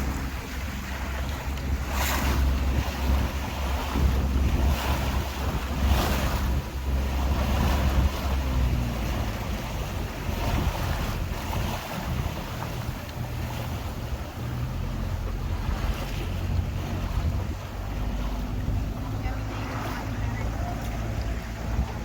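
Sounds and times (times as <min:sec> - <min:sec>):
boat engine drone: 0:00.0 - 0:22.0
water splashing along hull: 0:00.0 - 0:22.0
wind buffeting microphone: 0:00.0 - 0:22.0.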